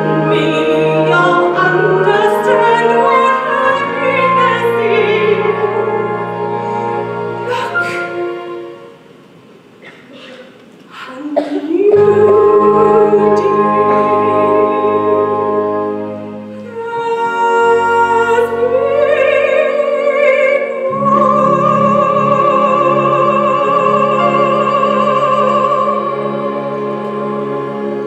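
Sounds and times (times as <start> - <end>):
musical accompaniment: 0.0 - 10.2, 11.6 - 28.0.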